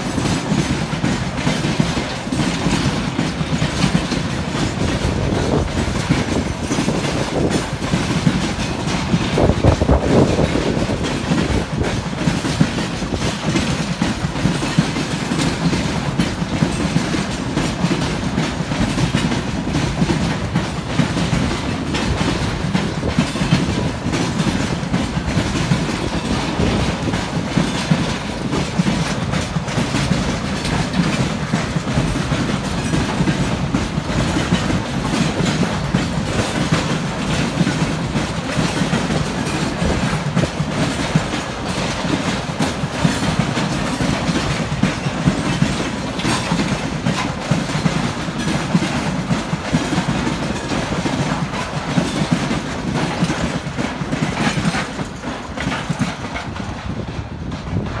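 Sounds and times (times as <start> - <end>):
freight train rumbling past: 0.0 - 58.0
train wheels clacking on rail joints: 0.0 - 58.0.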